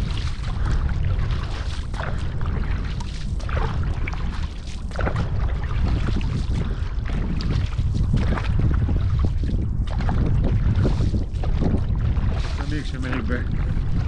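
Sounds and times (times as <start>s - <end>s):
paddle strokes splashing water: 0.0s - 14.0s
wind buffeting microphone: 0.0s - 14.0s.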